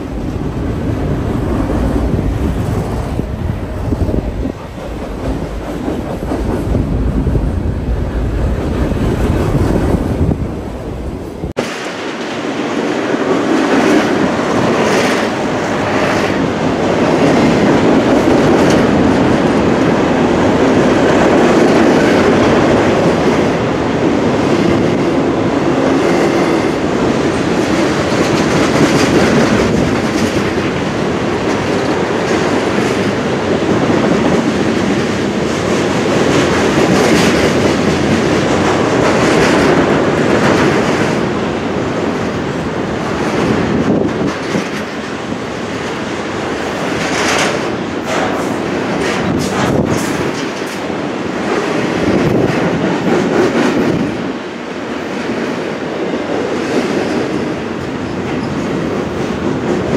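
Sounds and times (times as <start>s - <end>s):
train wheels clacking over track: 0.0s - 10.2s, 11.5s - 59.9s
freight train rumbling past: 0.0s - 59.9s.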